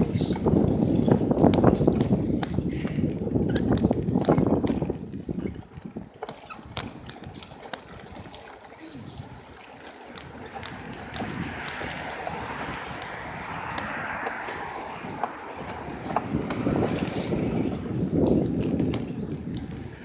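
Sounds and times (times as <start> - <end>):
bicycle clicking and rattling: 0.0 - 20.0
wind rumbling on microphone: 0.0 - 20.0.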